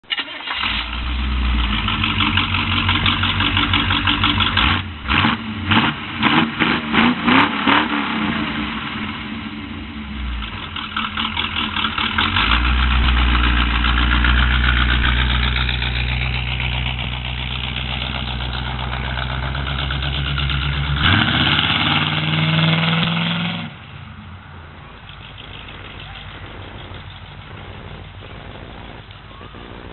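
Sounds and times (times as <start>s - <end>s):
car engine revving: 0.4s - 29.9s.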